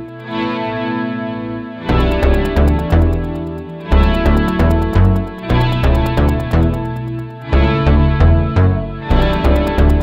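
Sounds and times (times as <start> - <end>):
electronic instrumental music: 0.0 - 10.0.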